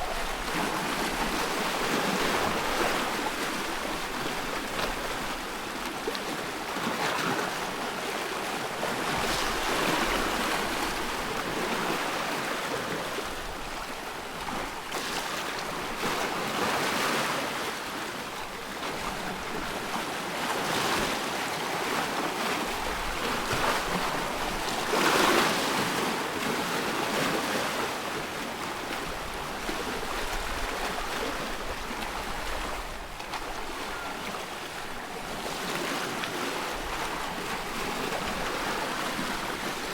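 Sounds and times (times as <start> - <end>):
waves washing in: 0.0 - 39.9
wind: 0.0 - 39.9.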